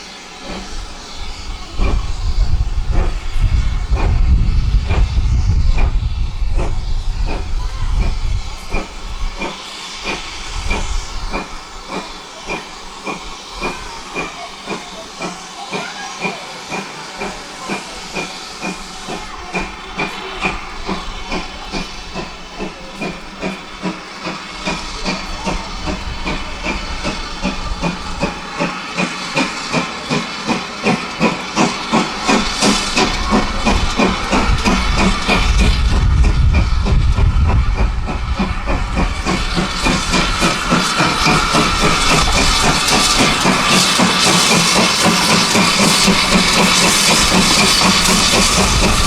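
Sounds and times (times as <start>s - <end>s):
steam hissing: 0.0s - 49.0s
steam locomotive exhaust beats: 0.0s - 49.0s.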